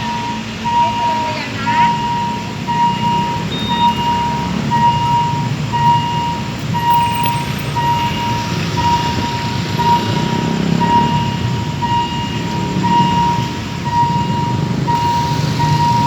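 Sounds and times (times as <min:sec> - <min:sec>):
level crossing alarm beeping: 0:00.0 - 0:16.0
low diesel engine rumble: 0:00.0 - 0:16.0.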